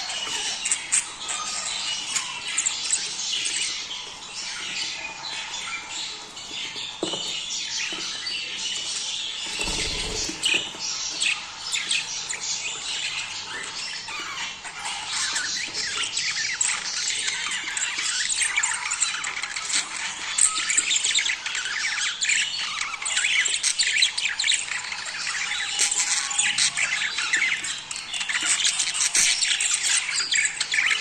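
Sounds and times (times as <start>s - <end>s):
budgerigars chattering: 0.0s - 31.0s.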